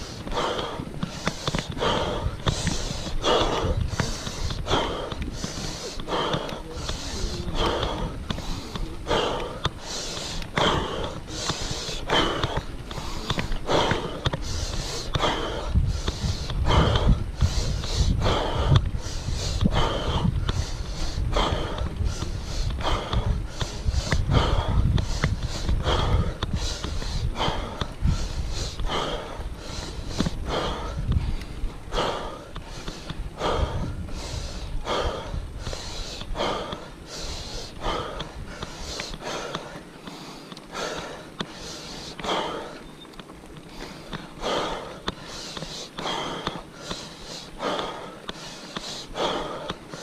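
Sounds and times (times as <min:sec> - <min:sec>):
person breathing hard: 0:00.0 - 0:42.8, 0:43.6 - 0:50.0.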